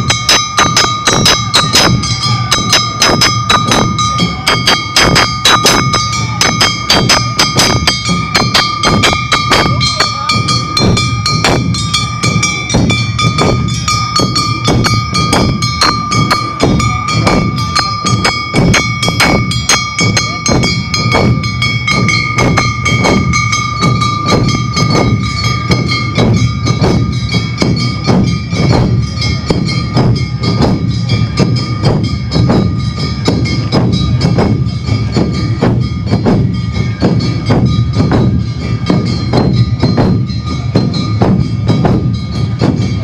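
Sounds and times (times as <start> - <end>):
drums beating: 0.0 - 43.0
metal bell striking: 0.0 - 43.0.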